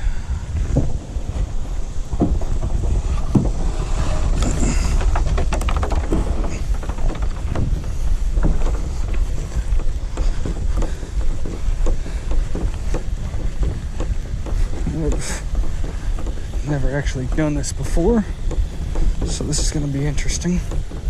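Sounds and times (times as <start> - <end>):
wind buffeting microphone: 0.0 - 21.0
short knocks and scrapes: 0.5 - 21.0.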